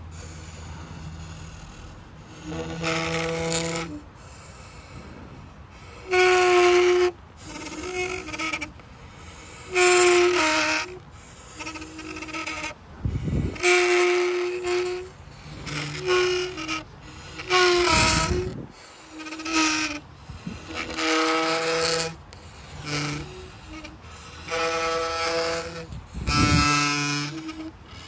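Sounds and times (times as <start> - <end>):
wood friction instrument tones: 0.0 - 28.0.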